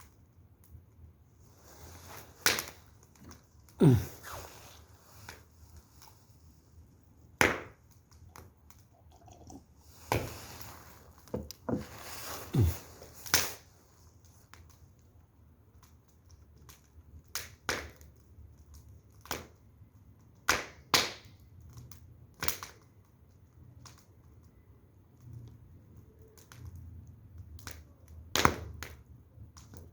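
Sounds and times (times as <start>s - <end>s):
firewood crackling and popping: 0.0s - 29.9s.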